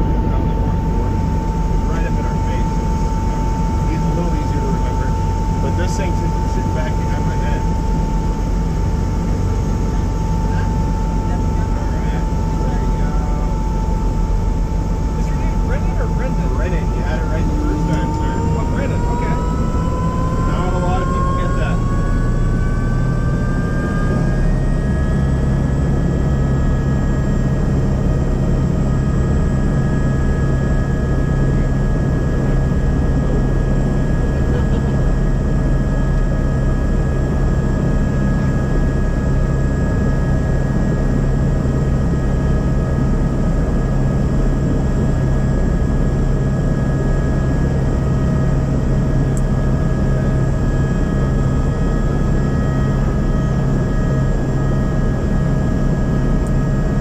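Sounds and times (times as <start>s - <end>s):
helicopter engine and rotor: 0.0s - 57.0s
high whine: 0.0s - 57.0s.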